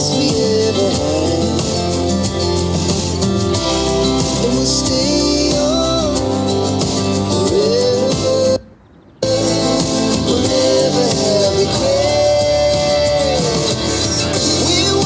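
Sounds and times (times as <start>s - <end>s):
pop music through speaker: 0.0s - 8.6s, 9.2s - 15.0s.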